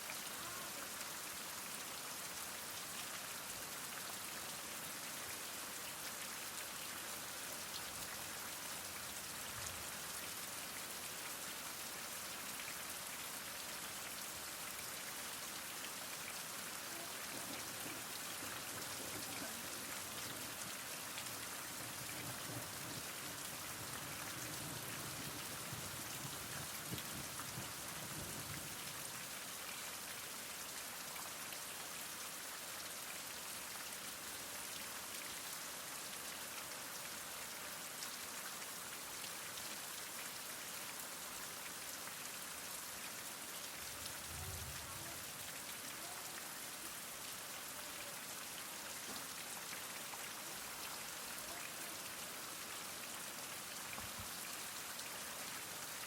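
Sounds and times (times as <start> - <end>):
heavy rain falling: 0.1 - 31.2, 40.9 - 56.0.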